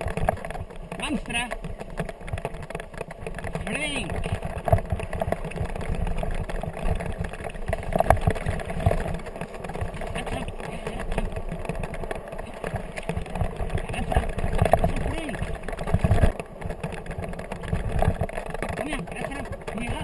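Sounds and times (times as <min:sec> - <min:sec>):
kickbike rolling over bumpy trail: 0:00.0 - 0:20.0
wheels knocking on bumps: 0:00.0 - 0:20.0.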